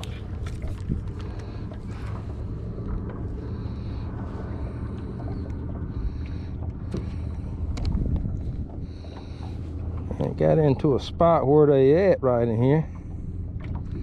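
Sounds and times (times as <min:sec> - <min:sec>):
boat motor running: 0:00.0 - 0:14.0.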